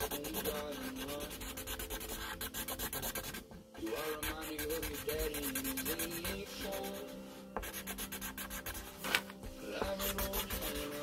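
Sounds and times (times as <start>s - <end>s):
marker scrubbing on paper: 0.0s - 11.0s
music from a speaker: 0.0s - 11.0s.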